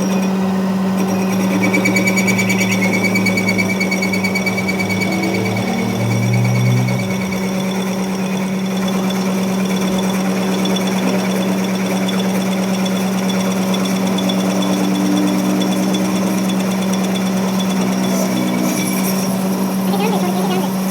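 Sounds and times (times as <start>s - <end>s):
workshop machine humming: 0.0s - 20.9s.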